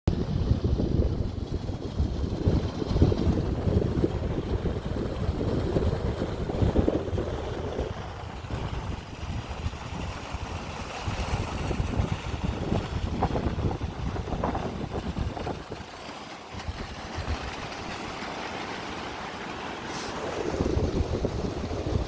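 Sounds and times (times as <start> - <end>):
wind buffeting microphone: 0.1 - 18.1, 20.1 - 22.0.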